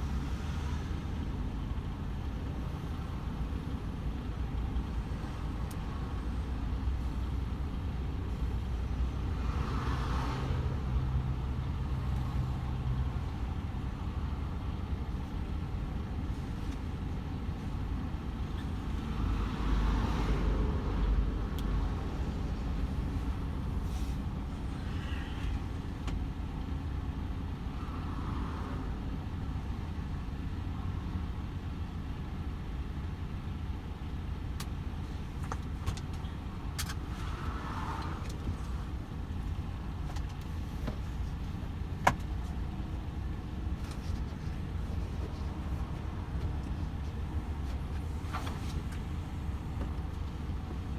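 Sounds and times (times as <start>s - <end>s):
truck engine and tyres rumbling: 0.0s - 50.9s.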